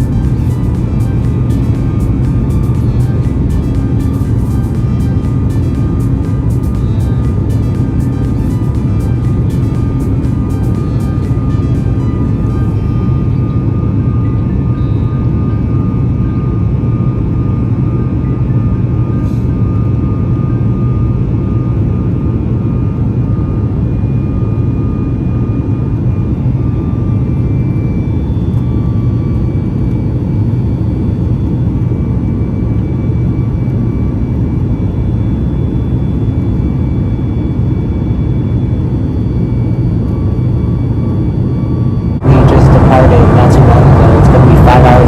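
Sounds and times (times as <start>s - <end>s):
faint steady whine: 0.0s - 45.0s
jet engine and airflow rush: 0.0s - 45.0s.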